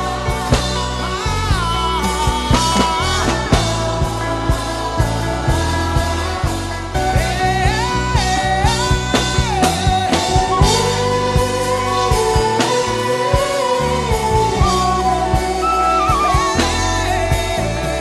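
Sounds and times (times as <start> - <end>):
bass and steady beat: 0.0 - 18.0.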